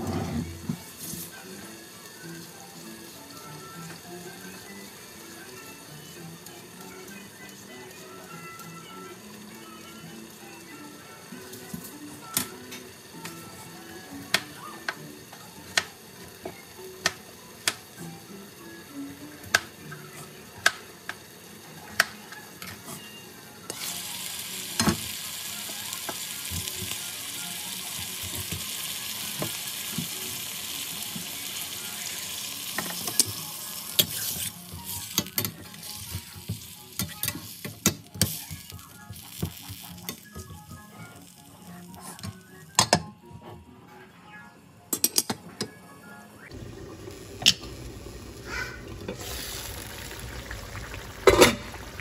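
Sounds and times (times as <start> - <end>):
curry sizzling in a pan: 0.4 - 42.6, 46.5 - 52.0.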